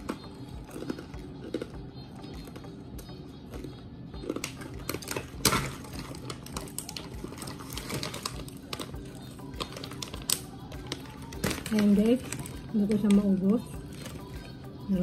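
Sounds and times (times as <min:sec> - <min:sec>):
crunching and chewing crisp snack: 0:00.0 - 0:14.9.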